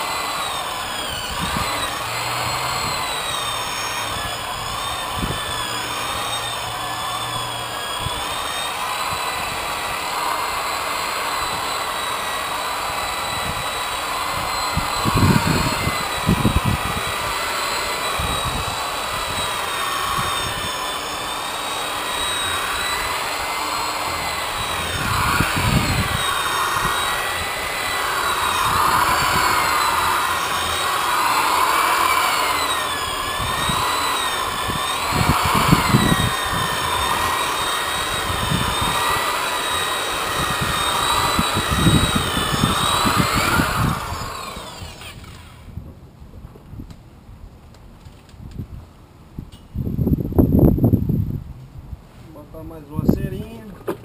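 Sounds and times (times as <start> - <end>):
rotary polisher motor whine: 0.0 - 45.7.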